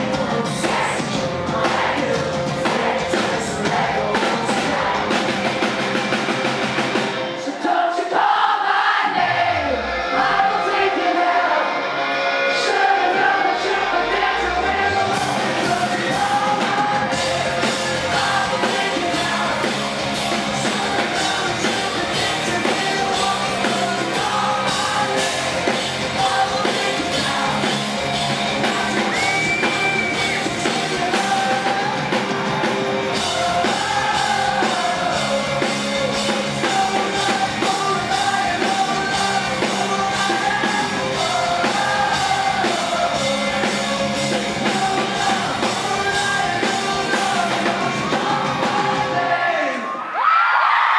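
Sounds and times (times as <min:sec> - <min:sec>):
electric guitars: 0:00.0 - 0:07.6, 0:09.3 - 0:49.7
drum kit: 0:00.0 - 0:08.4, 0:09.1 - 0:49.8
lead vocals singing: 0:00.0 - 0:50.9.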